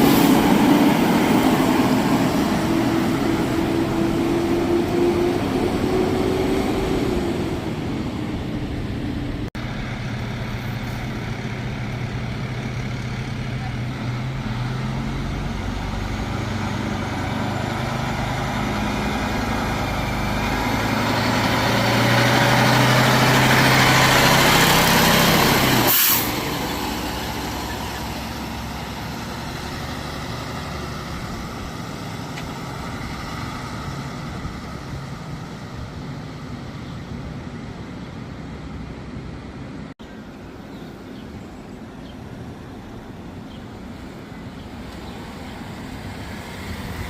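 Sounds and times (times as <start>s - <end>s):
fire truck engine running: 0.0s - 47.0s.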